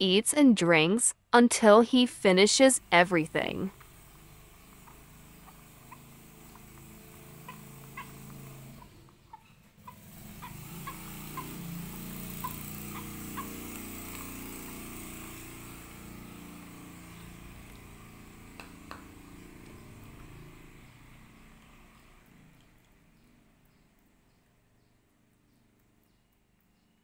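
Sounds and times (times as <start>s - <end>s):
vehicle engine passing: 2.3s - 24.7s.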